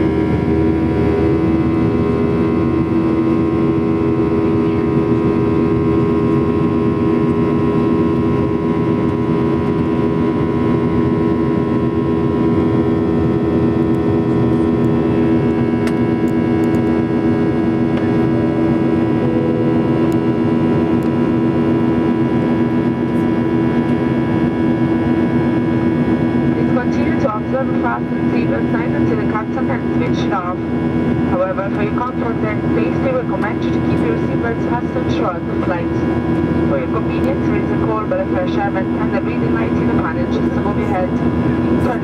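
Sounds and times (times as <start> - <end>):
airflow rush in jet cabin: 0.0 - 42.0
jet engine hum: 0.0 - 42.0.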